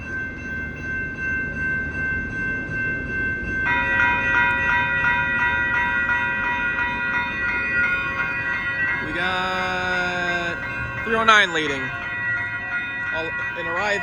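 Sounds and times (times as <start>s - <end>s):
crossing warning bells ringing: 0.0s - 14.0s.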